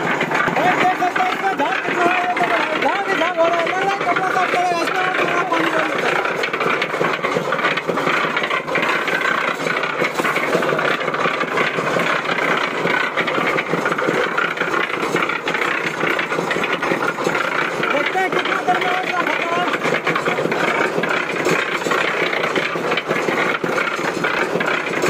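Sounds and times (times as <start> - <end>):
cement mixer drum rattling: 0.0 - 25.0.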